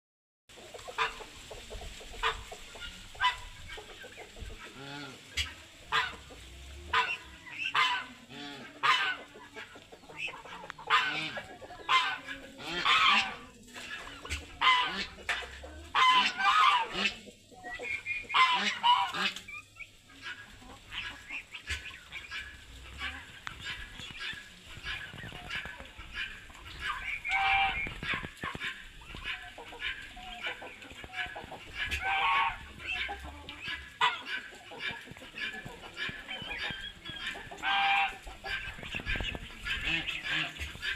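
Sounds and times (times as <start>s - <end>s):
poultry squawking and clucking: 0.5s - 40.9s.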